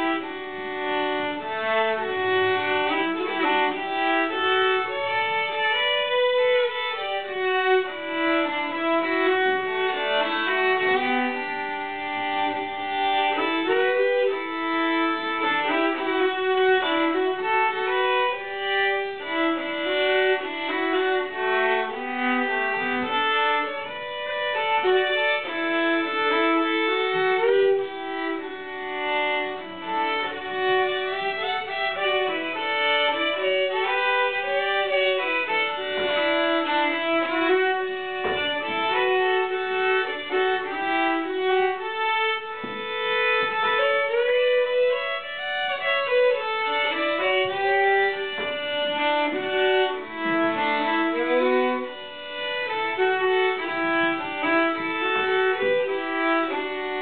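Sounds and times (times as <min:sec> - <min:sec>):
two fiddles playing a folk tune: 0:00.0 - 0:57.0.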